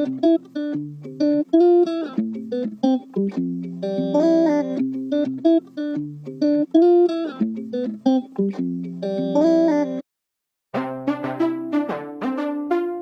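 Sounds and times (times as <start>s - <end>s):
plucked guitar melody: 0.0s - 10.0s, 10.8s - 13.0s.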